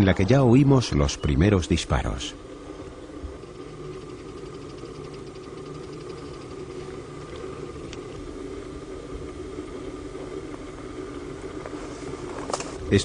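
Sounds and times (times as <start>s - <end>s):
steady hum with high whine: 0.0s - 13.0s.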